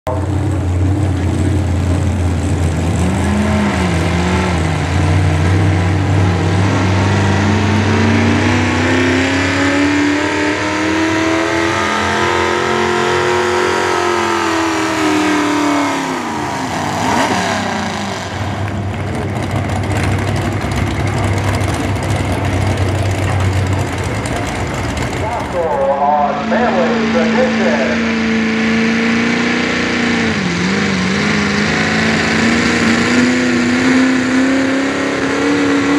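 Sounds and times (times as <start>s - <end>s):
steady low drone: 0.1s - 35.4s
engine working under load: 0.1s - 35.9s.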